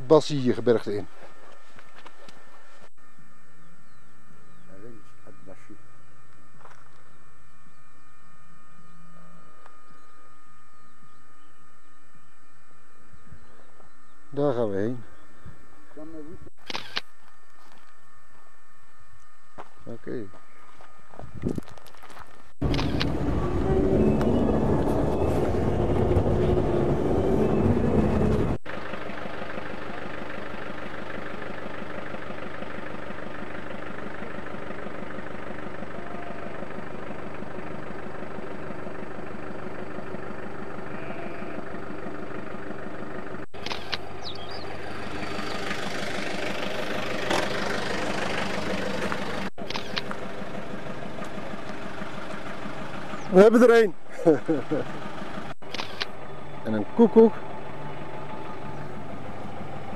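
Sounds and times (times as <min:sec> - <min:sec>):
vehicle engine and road noise: 0:06.0 - 0:59.9.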